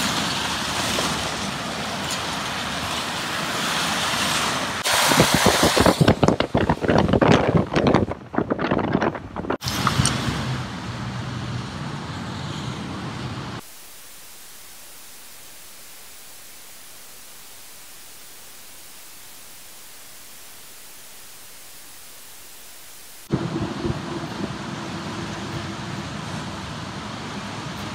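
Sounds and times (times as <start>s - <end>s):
heavy rain hiss: 0.0s - 6.8s, 9.6s - 27.9s
tyres hissing on wet pavement: 0.0s - 6.8s, 9.6s - 27.9s.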